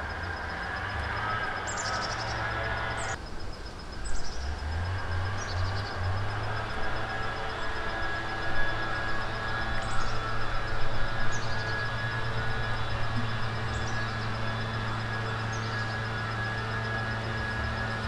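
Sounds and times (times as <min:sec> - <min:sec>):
low machine hum: 0:00.0 - 0:03.2, 0:04.4 - 0:18.0.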